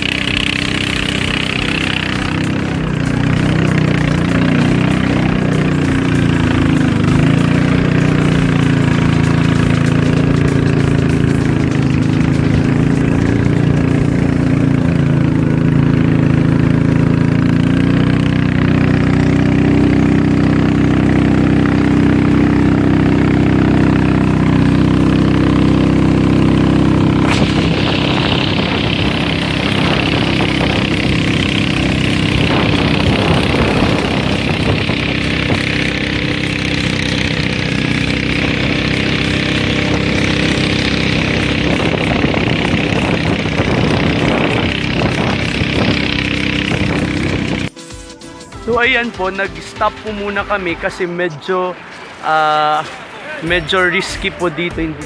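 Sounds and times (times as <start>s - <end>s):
water rushing along hull: 0.0s - 47.7s, 49.4s - 55.0s
boat engine running: 0.0s - 55.0s
wind: 0.0s - 55.0s.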